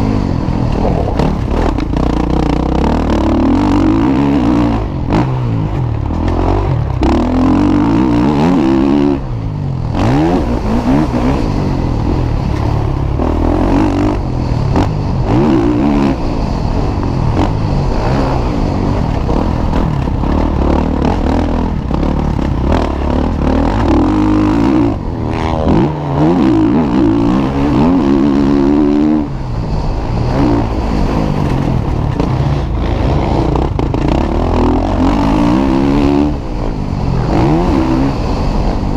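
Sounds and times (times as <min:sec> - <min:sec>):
motocross bike engines revving: 0:00.0 - 0:38.9
steady low rumble: 0:00.0 - 0:38.9.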